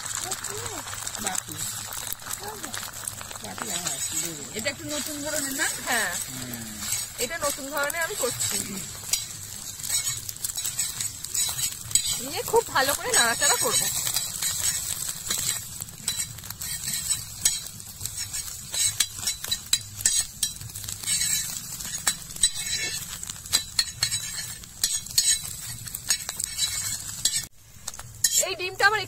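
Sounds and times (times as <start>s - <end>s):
egg sizzling: 0.0s - 29.0s
metal spatula scraping iron pan: 3.0s - 27.5s, 28.2s - 28.6s.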